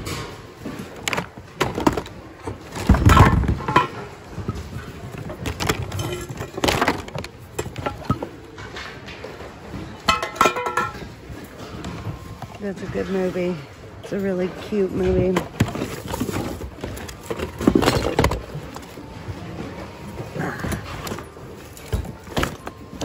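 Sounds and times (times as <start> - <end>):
items clattering in plastic bin: 0.0 - 13.6, 14.7 - 23.0.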